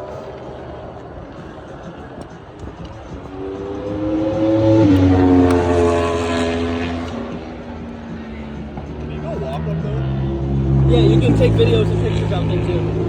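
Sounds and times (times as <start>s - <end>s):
motorcycle passing at speed: 0.0s - 13.0s.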